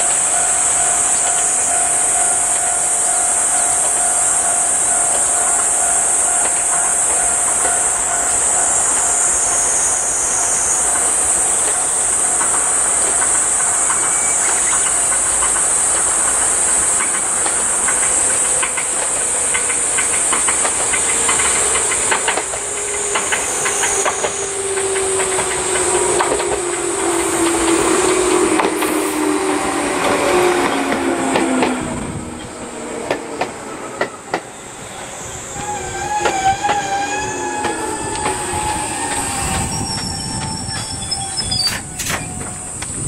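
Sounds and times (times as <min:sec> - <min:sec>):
high-pitched hiss: 0:00.0 - 0:32.7, 0:34.4 - 0:43.0
train motor whine: 0:00.0 - 0:43.0
wheels clicking over rail joints: 0:03.2 - 0:34.5, 0:35.9 - 0:43.0.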